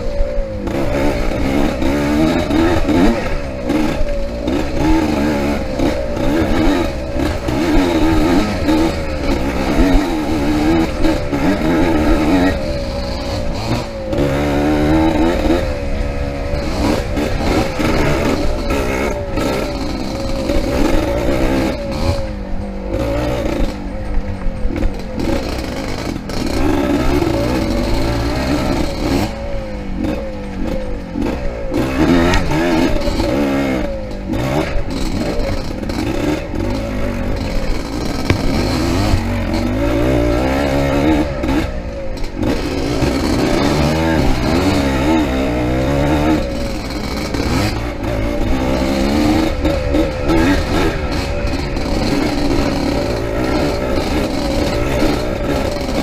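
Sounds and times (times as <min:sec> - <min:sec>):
dirt bike engine revving: 0:00.0 - 0:56.0
rattling and scraping: 0:00.1 - 0:56.0.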